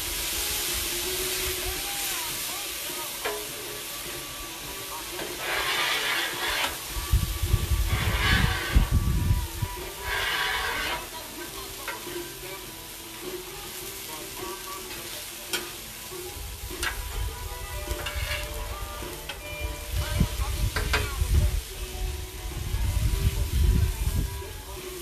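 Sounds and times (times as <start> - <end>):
meat sizzling on griddle: 0.0 - 25.0.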